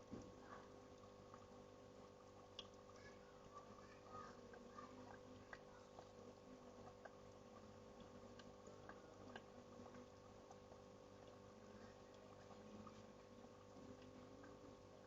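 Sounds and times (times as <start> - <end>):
faint steady hum: 0.0 - 15.0
soft ticks and clicks: 2.3 - 15.0.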